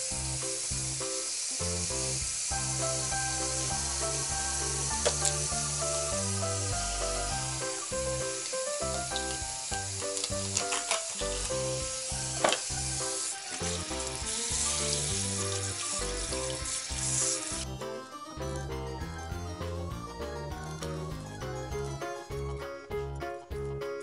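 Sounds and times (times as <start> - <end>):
background music: 0.0 - 24.0.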